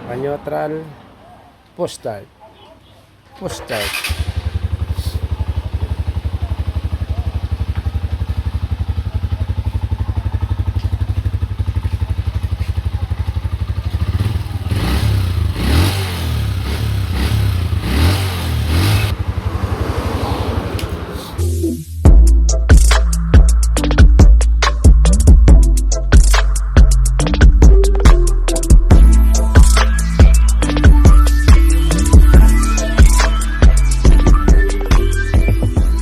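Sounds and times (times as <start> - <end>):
motorcycle engine idling and revving: 3.6 - 36.0.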